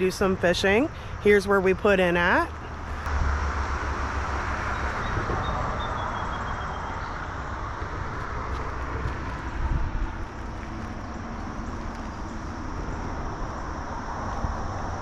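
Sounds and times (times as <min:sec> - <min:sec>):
road traffic tyres rushing: 0:02.2 - 0:15.0.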